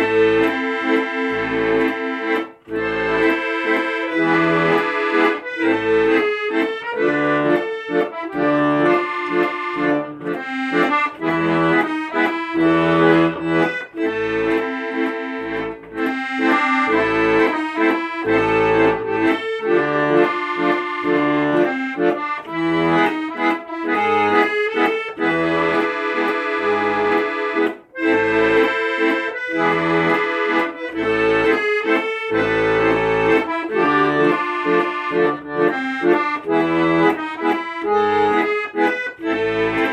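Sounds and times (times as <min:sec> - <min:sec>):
accordion playing: 0:00.0 - 0:39.9.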